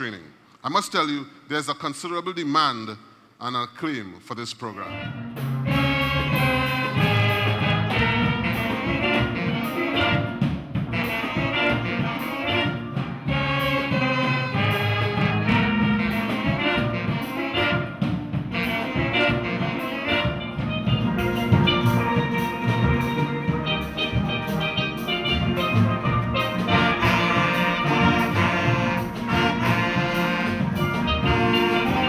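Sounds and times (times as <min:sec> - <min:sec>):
saxophones and wind instruments: 0:04.6 - 0:32.0
drums: 0:04.8 - 0:32.0.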